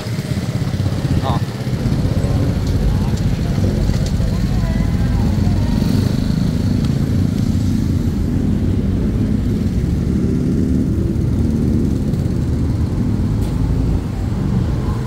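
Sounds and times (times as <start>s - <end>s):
scooter engine running: 0.0s - 13.3s
wind rumble on microphone: 0.4s - 15.0s.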